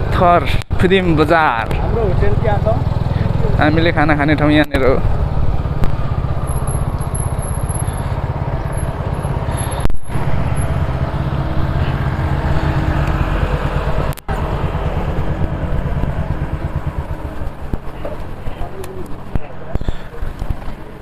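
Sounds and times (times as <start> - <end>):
motorcycle engine idling: 1.7 - 21.0.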